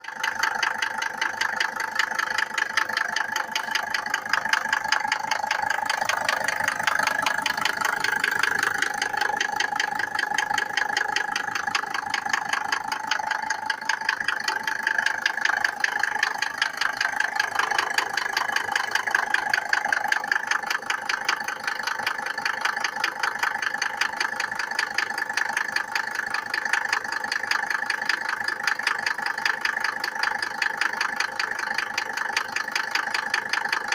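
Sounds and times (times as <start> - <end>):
diesel engine idling with knock: 0.0 - 33.9.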